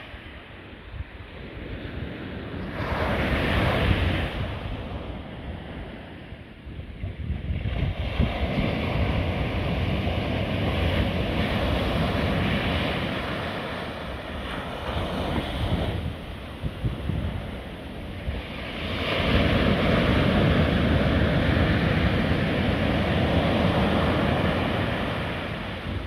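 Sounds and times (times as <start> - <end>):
surf washing up a beach: 0.0 - 26.0.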